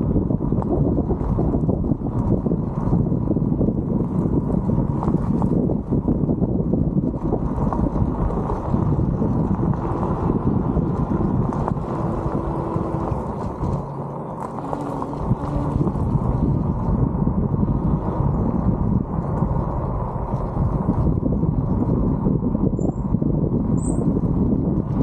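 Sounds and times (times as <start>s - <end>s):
tyres rumbling on gravel: 0.0s - 25.0s
wind buffeting microphone: 0.0s - 25.0s.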